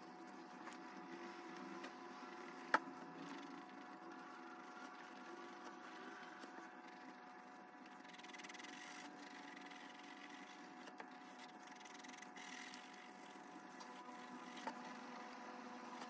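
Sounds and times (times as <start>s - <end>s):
steady hum: 0.0s - 16.0s
pencil scratching on paper: 1.1s - 15.0s.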